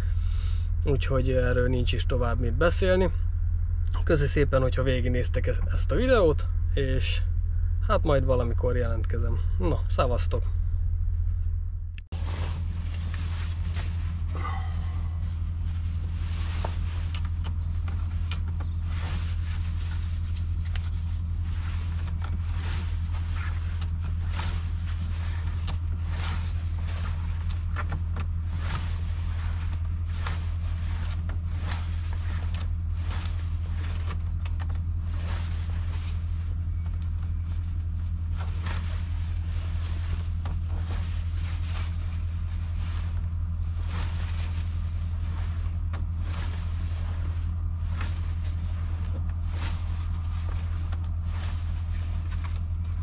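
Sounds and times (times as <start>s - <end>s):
truck diesel engine drone: 0.0s - 53.0s.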